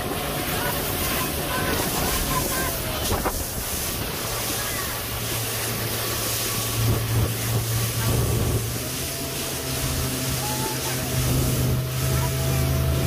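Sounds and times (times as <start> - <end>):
motorboat engine humming: 0.0 - 13.0
water rushing past hull: 0.0 - 13.0.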